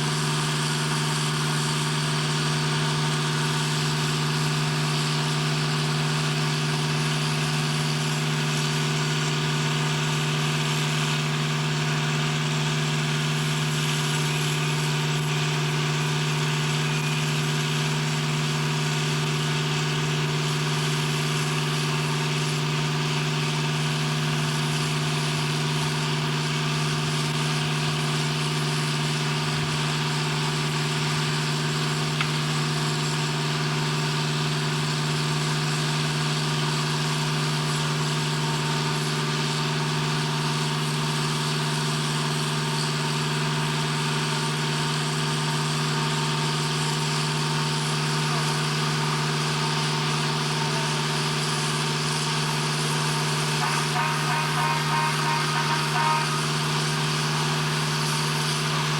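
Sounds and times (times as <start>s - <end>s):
industrial machinery drone: 0.0s - 58.9s.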